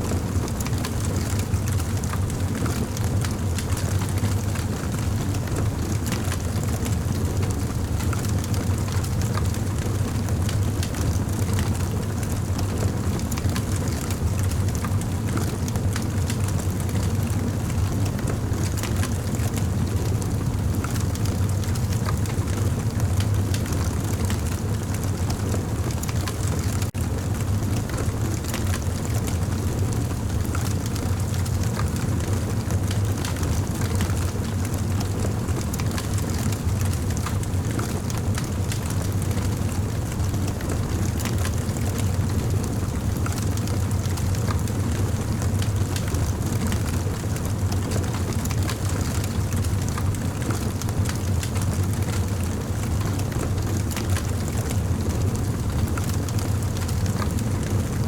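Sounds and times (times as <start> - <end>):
campfire rumble: 0.0 - 58.0
fire crackling and popping: 0.3 - 57.9.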